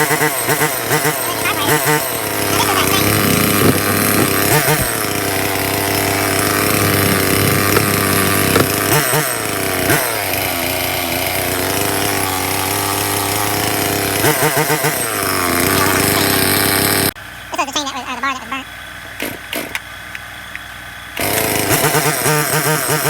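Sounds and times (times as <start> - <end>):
chainsaw engine running and revving: 0.0 - 17.2, 19.0 - 23.0.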